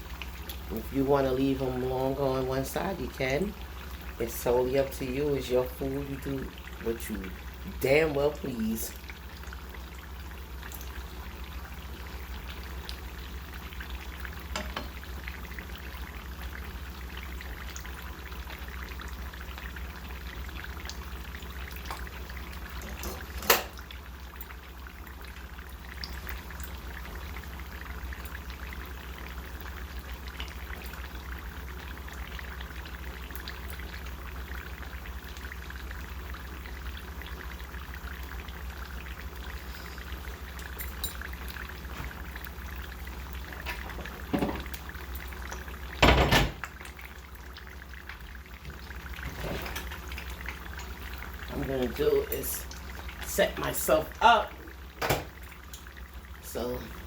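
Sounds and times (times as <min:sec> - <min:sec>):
spring rolls deep-frying in oil: 0:00.0 - 0:57.0.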